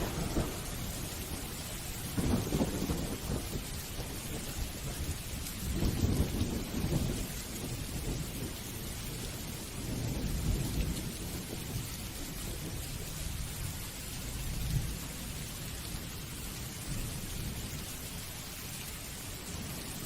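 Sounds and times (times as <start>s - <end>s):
low rolling thunder: 0.0s - 18.1s
steady rain falling: 0.0s - 20.0s.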